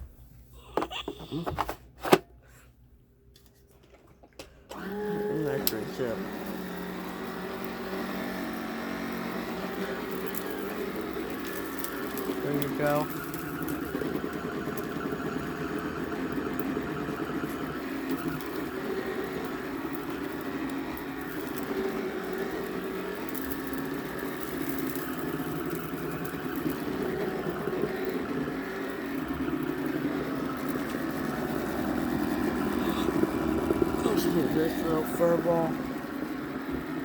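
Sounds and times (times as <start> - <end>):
carpet sweeper brush humming: 4.7 - 37.0.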